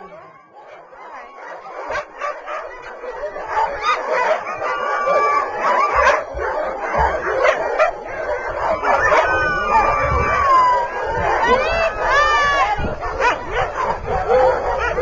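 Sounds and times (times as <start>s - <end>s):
dogs barking and yipping: 0.0s - 15.0s
dogs howling: 0.0s - 15.0s.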